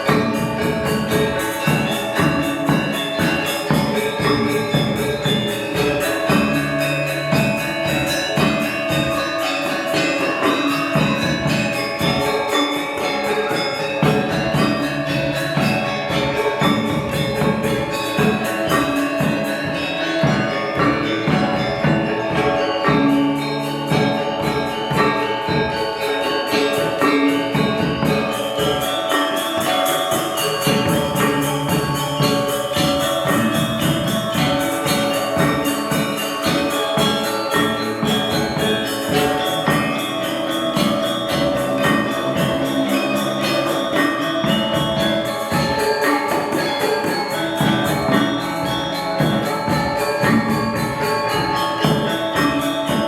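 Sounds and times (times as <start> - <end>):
metallophones and gongs playing: 0.0 - 53.0
rapid clashing cymbals: 0.0 - 53.0.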